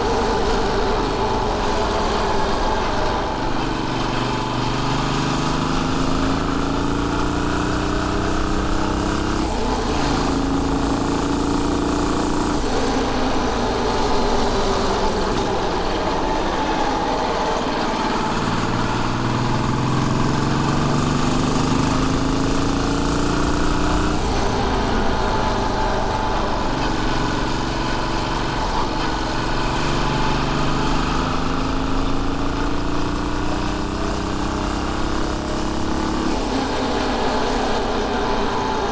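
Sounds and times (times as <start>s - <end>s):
motorcycle engine changing gears: 0.0s - 38.9s.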